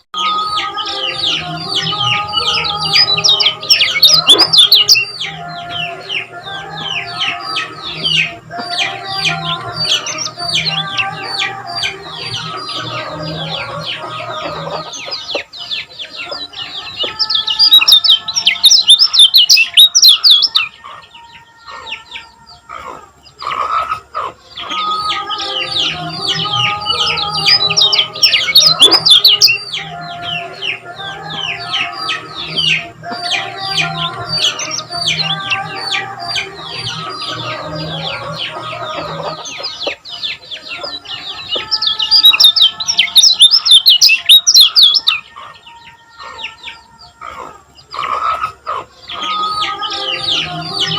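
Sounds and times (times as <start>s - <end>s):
bird chirping song: 0.0s - 50.9s.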